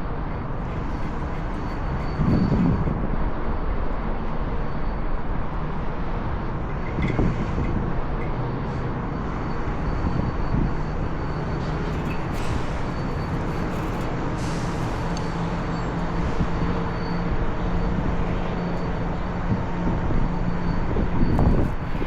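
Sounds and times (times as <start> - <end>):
steady rumbling noise: 0.0 - 22.0.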